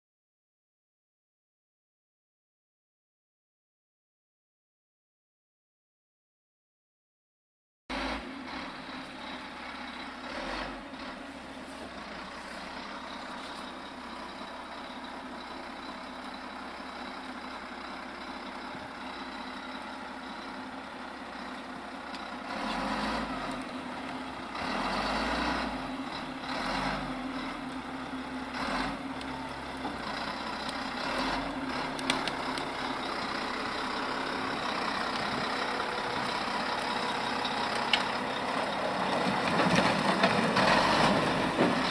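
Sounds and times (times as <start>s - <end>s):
diesel truck engine running: 7.9s - 41.9s.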